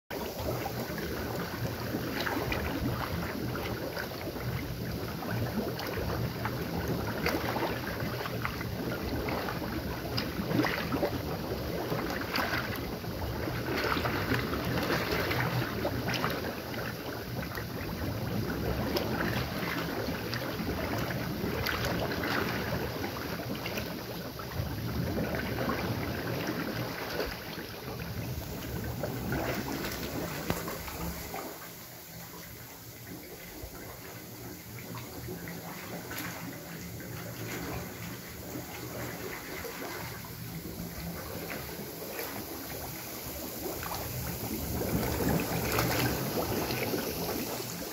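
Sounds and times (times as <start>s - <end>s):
spring water bubbling and gurgling: 0.1s - 47.9s
water splashes: 0.1s - 47.9s.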